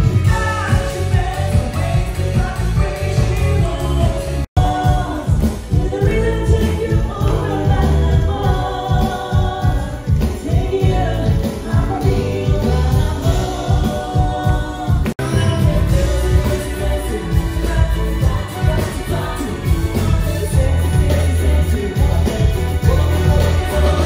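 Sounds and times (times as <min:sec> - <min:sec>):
pop band playing: 0:00.0 - 0:24.0
woman singing: 0:00.2 - 0:24.0.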